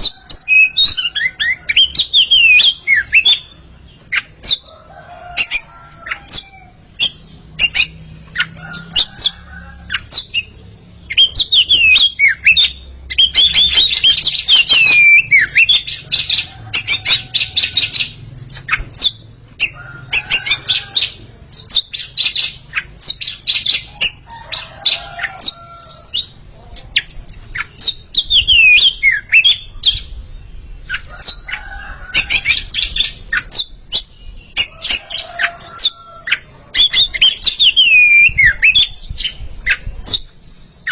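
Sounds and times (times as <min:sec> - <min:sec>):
birds singing whistles and chirps: 0:00.0 - 0:40.9.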